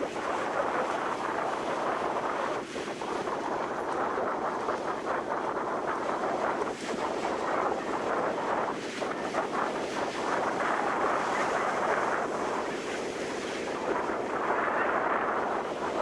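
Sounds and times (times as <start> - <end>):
ocean surf on beach: 0.0 - 16.0
wind on microphone: 0.0 - 16.0.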